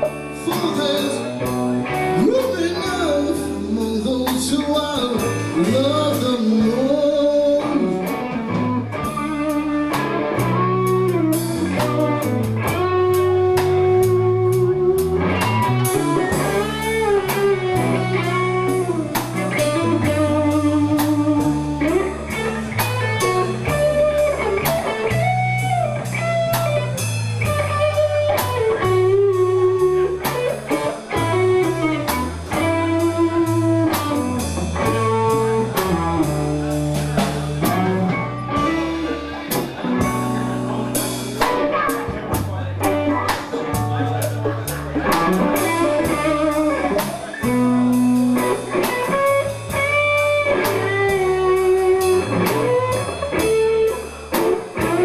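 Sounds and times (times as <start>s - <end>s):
bass: 0.0s - 55.0s
lead guitar bending melody: 0.0s - 55.0s
steady drum beat: 0.0s - 55.0s.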